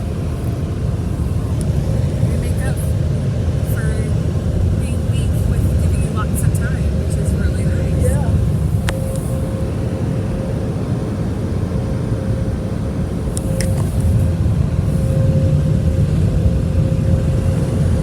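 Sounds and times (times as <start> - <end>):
blow dryers blasting air: 0.0 - 18.0
thin steady hum: 0.0 - 18.0.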